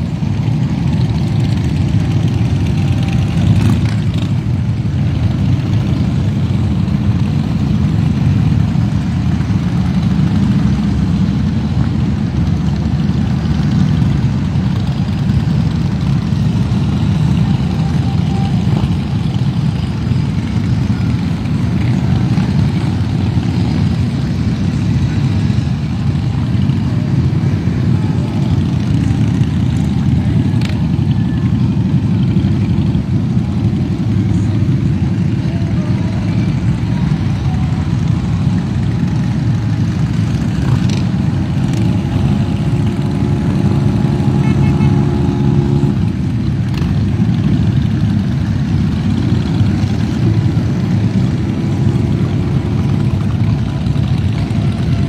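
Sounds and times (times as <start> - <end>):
motorcycle engines rumbling: 0.0 - 55.0.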